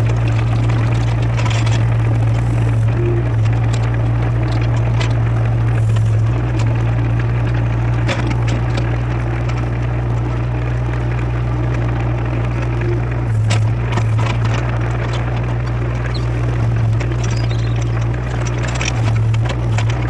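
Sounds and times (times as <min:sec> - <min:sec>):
bucket cracking and crunching soil: 0:00.0 - 0:20.0
excavator diesel engine droning: 0:00.0 - 0:20.0.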